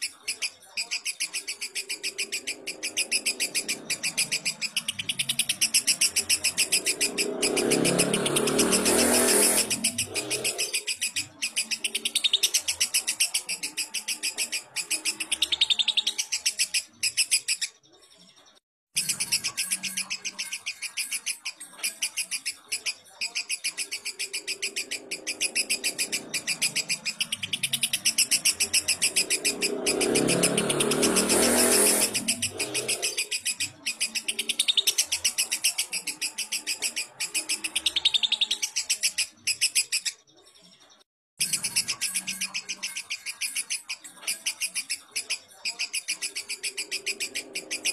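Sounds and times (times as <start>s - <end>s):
lovebird chattering: 0.0s - 17.7s, 19.0s - 40.2s, 41.4s - 47.9s.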